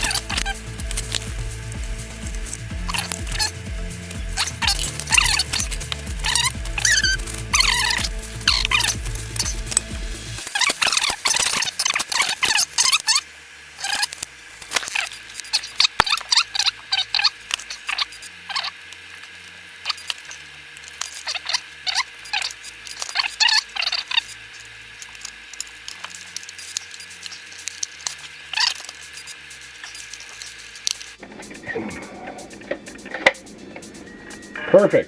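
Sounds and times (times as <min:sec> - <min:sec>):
small parts squeaking when rubbed: 0:00.0 - 0:34.8.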